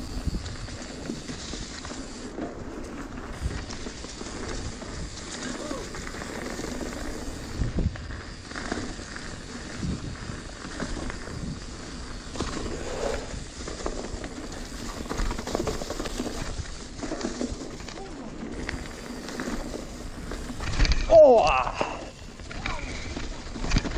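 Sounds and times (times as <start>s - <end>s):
bike knocking and rattling: 0.0s - 23.9s
bike tyres crackling over leaves: 0.0s - 23.9s.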